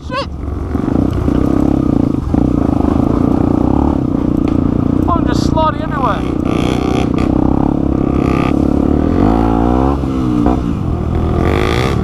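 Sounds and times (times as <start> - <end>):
dirt bike engine revving: 0.3 - 12.0.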